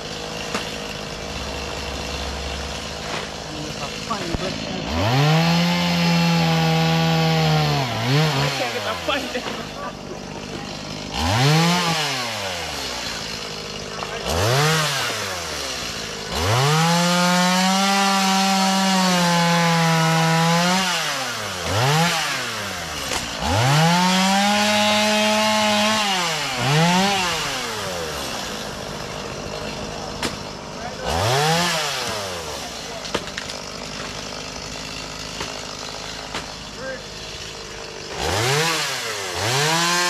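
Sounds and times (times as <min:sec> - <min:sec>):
chainsaw revving and cutting wood: 0:00.0 - 0:40.0.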